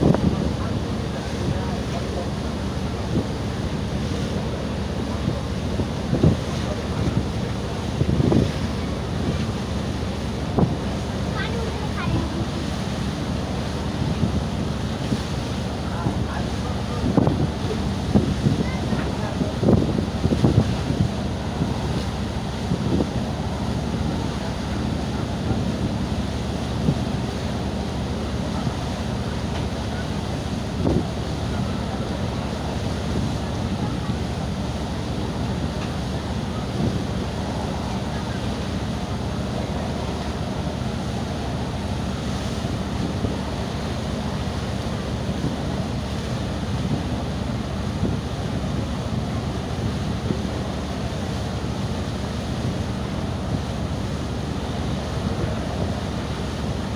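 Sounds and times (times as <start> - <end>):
boat wake splashing water: 0.0 - 56.9
wind buffeting microphone: 0.0 - 56.9.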